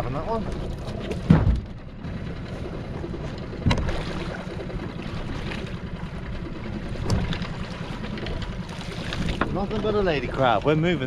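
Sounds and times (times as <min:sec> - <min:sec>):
water lapping: 0:00.0 - 0:11.0
wind: 0:00.0 - 0:11.0.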